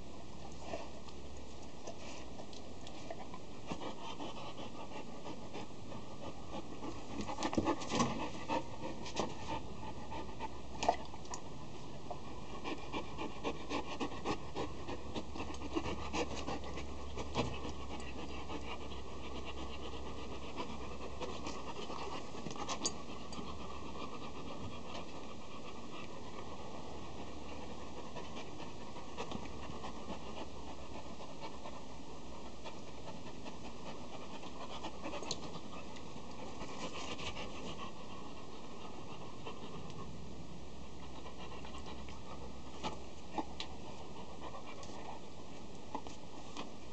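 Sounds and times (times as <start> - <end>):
puppy panting: 1.9 - 46.9.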